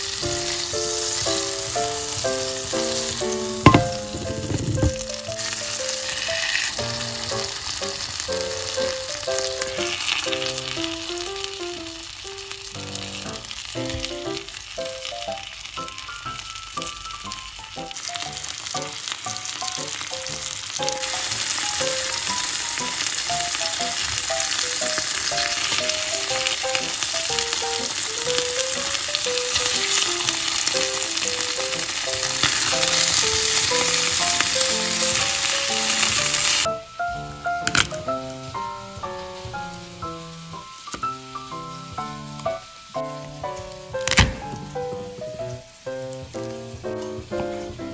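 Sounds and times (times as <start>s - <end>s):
background music melody: 0.0s - 47.9s
chicken sizzling in a skillet: 0.0s - 47.9s.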